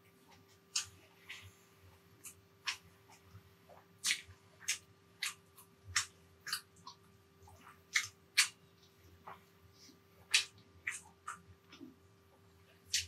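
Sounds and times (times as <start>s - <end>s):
person chewing with mouth smacks: 0.2s - 1.6s, 2.2s - 13.0s.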